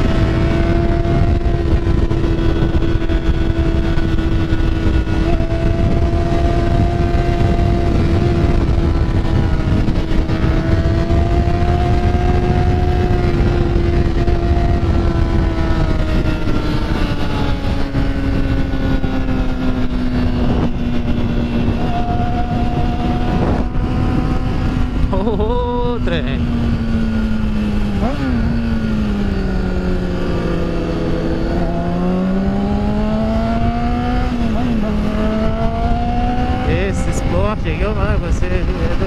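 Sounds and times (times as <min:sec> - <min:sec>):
motorcycle engine cruising: 0:00.0 - 0:39.0
wind rushing on microphone: 0:00.0 - 0:39.0.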